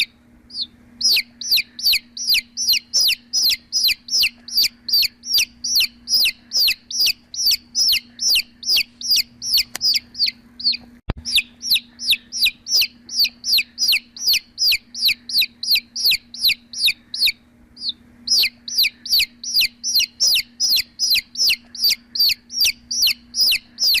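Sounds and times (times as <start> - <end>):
chick peeping: 0.0 - 24.0
faint steady hum: 0.0 - 24.0.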